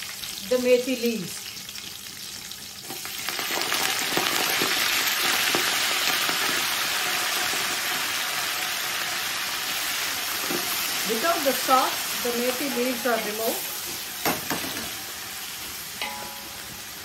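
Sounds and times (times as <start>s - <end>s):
leaves sizzling in hot oil: 0.0s - 17.0s.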